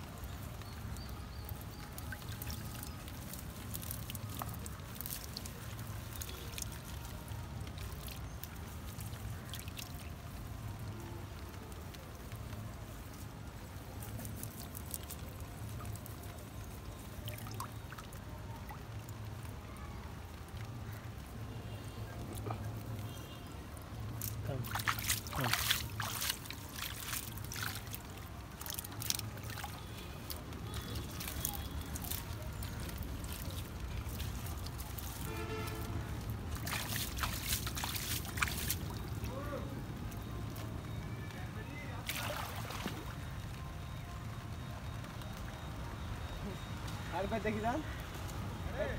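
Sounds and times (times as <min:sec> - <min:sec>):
water splashing and trickling: 0:00.0 - 0:48.9.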